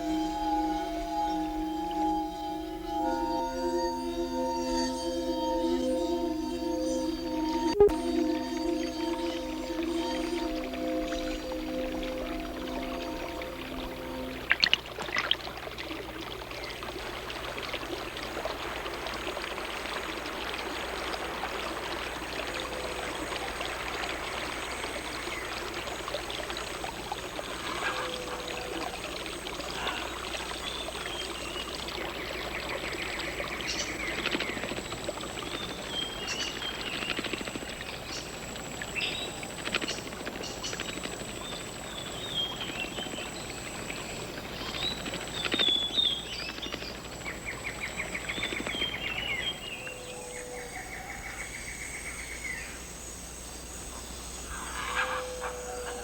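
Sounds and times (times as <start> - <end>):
running water rushing: 0.0 - 50.2.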